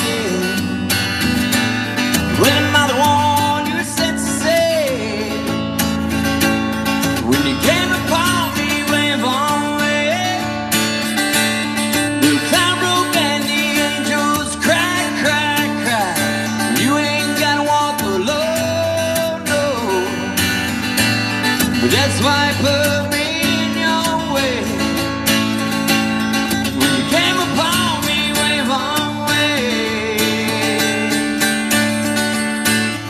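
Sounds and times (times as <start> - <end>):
man singing into a microphone: 0.0 - 1.1, 2.2 - 5.8, 7.0 - 20.8, 21.6 - 25.7, 26.5 - 32.1
acoustic guitar strumming: 0.0 - 33.0.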